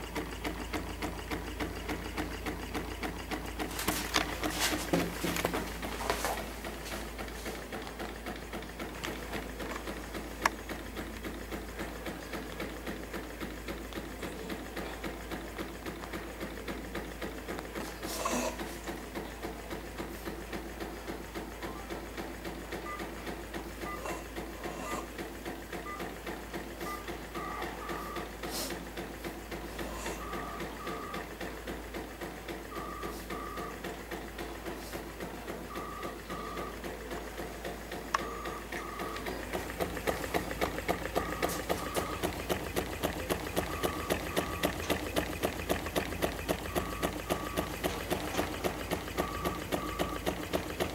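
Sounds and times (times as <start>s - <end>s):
small engine mechanical clatter: 0.0s - 50.9s.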